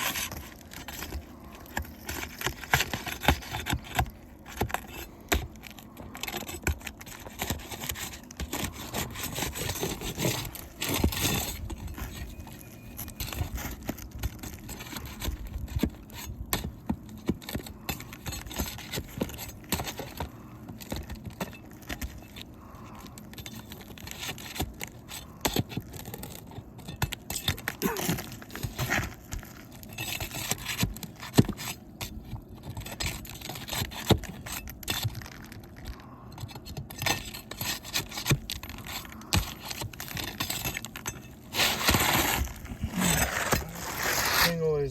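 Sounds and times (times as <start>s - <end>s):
tool scraping under shingle: 0.0s - 44.9s.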